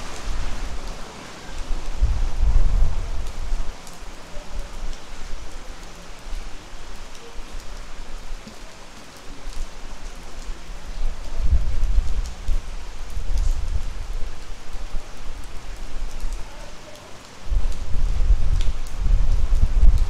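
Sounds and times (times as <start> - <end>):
steady rain falling: 0.0 - 20.0
sharp raindrop ticks: 3.2 - 20.0.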